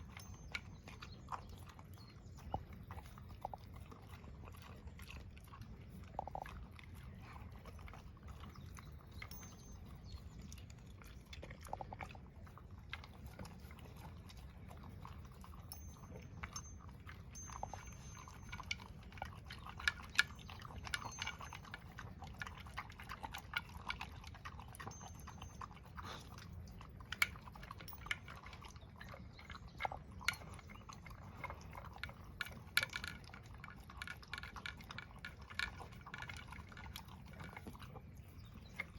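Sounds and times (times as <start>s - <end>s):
dog chewing and licking: 0.0s - 38.9s.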